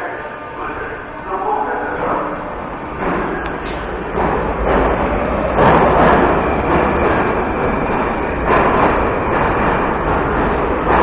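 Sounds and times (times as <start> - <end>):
subway train standing at platform: 0.0 - 11.0.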